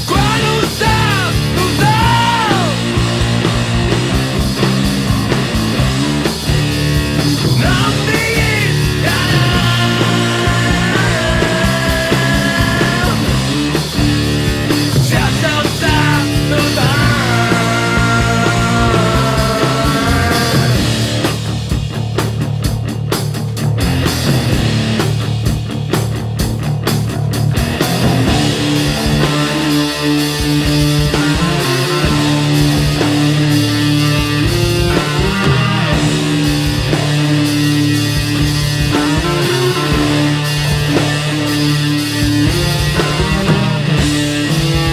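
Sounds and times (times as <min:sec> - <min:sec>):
punk rock band with electric guitar: 0:00.0 - 0:44.9.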